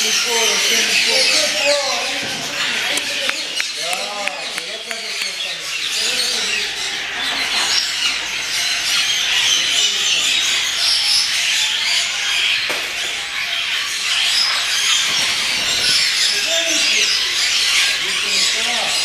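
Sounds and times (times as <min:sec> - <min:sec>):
many birds chirping: 0:00.0 - 0:19.0.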